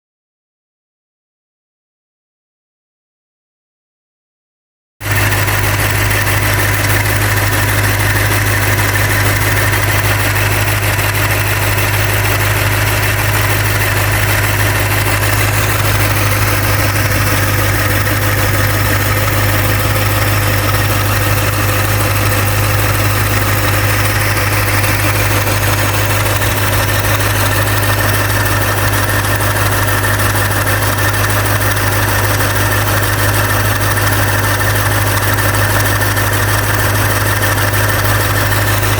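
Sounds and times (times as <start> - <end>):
car engine idling: 5.0 - 38.9
high engine whine: 5.0 - 38.9.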